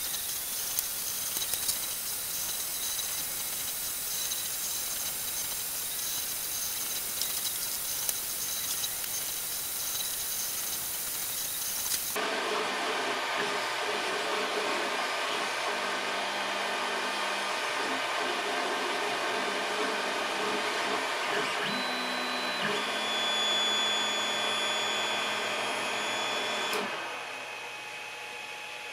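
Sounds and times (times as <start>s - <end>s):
stepper motors whining: 0.0s - 12.2s, 13.3s - 27.4s.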